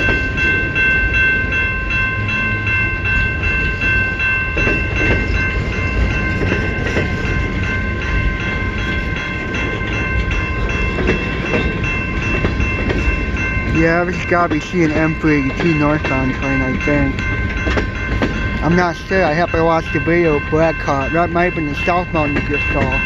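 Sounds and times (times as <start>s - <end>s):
freight train wheels rumbling: 0.0s - 23.0s
wheels clacking on rail: 0.0s - 23.0s.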